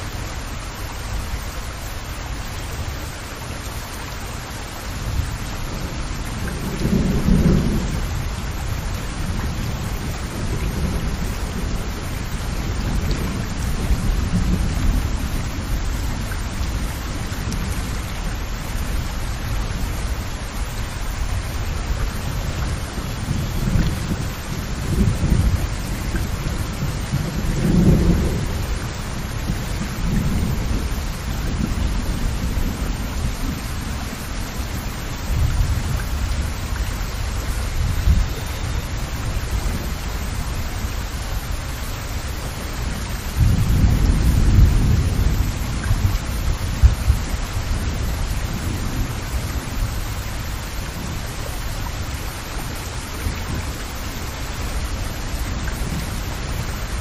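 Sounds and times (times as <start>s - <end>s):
heavy rain on water: 0.0s - 57.0s.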